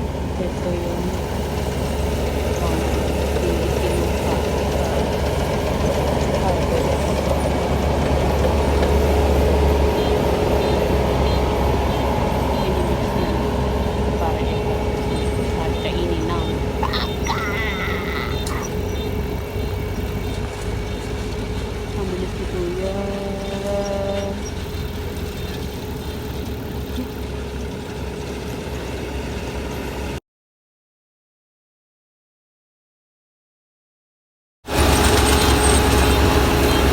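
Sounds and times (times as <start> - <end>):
farm machinery engine running: 0.0 - 30.2, 34.7 - 36.9.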